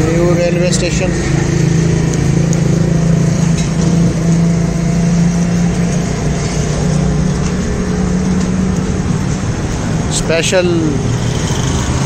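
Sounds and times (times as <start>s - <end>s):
engine running: 0.0s - 12.0s
street traffic: 0.0s - 12.0s.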